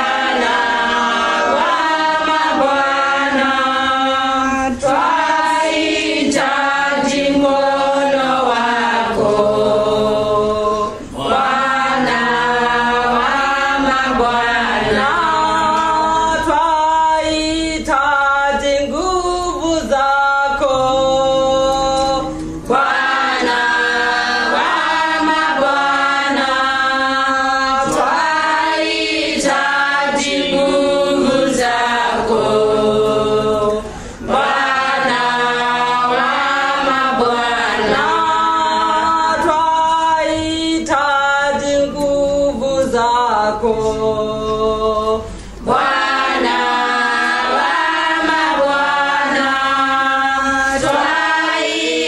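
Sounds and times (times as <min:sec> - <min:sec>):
choir singing worship song: 0:00.0 - 0:52.0.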